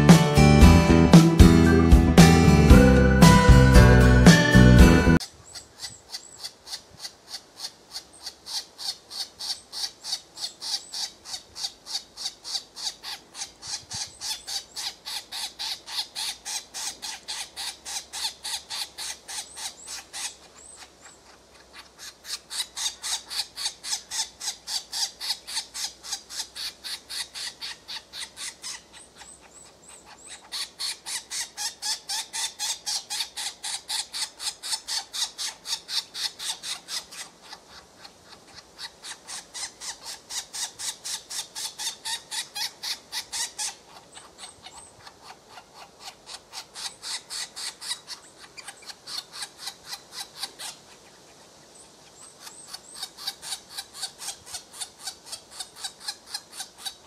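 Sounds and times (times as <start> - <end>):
woodpecker nestlings begging: 0.6 - 57.0.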